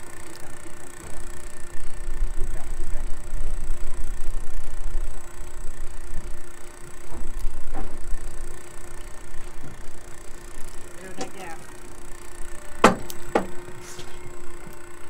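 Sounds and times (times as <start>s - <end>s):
outboard engines humming: 0.0s - 15.0s.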